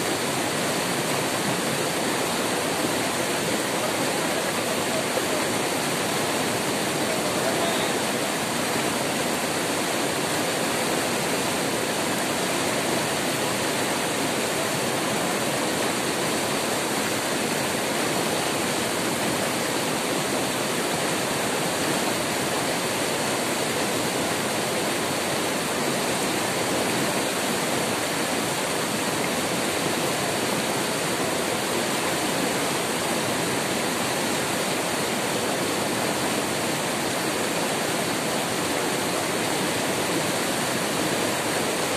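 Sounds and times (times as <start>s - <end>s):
rapids rushing over boulders: 0.0s - 41.9s.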